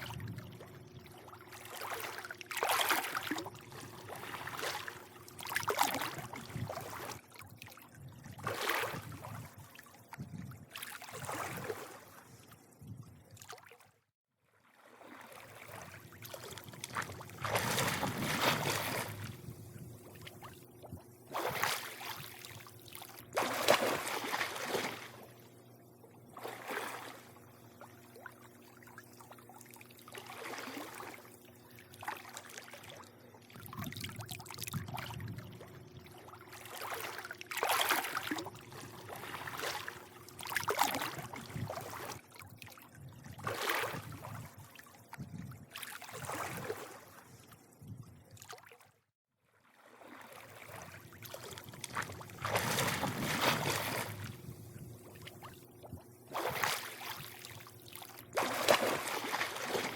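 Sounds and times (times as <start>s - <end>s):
faint steady hum: 0.0s - 13.5s, 14.8s - 48.4s, 49.8s - 59.9s
pool water lapping against edge: 0.0s - 13.9s, 14.6s - 48.9s, 49.5s - 59.9s.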